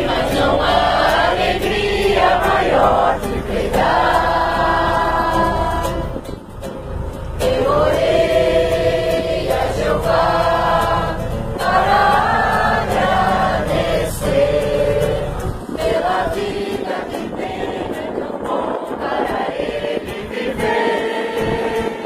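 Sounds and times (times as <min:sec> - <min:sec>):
group singing a hymn: 0:00.0 - 0:06.6, 0:07.2 - 0:22.0
acoustic guitar strumming: 0:00.0 - 0:22.0
low steady rumble: 0:00.0 - 0:22.0.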